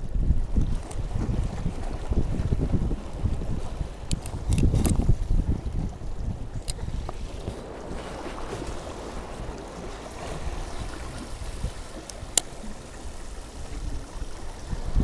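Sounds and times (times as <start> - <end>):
waves lapping against rocks: 0.0 - 15.0
wind rumble on microphone: 0.0 - 15.0.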